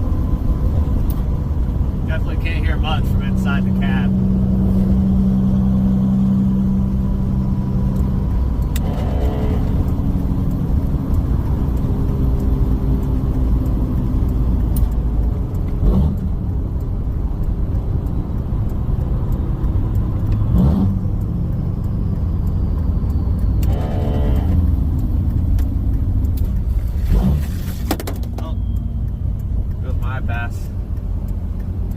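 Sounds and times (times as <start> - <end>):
diesel engine and road drone: 0.0 - 31.9.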